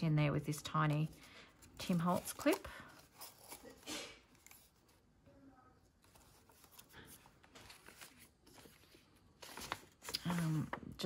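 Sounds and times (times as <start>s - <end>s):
paper rustling and crinkling: 0.8s - 5.1s, 5.9s - 11.0s.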